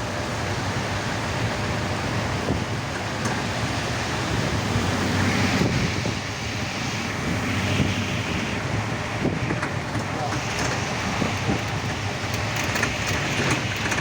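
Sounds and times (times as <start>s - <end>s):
rain on wet street: 0.0s - 14.0s
traffic on wet road: 0.0s - 14.0s
wind on microphone: 2.1s - 14.0s.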